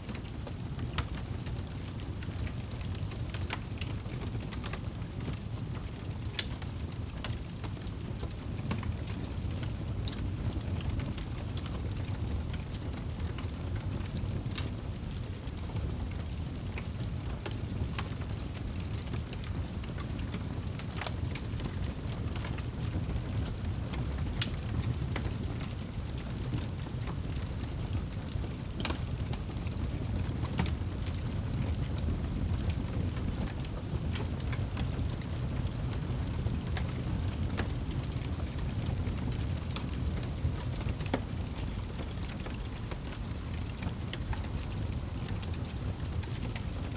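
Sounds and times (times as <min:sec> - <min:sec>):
rain: 0:00.0 - 0:46.9
fire crackling and popping: 0:00.1 - 0:46.9.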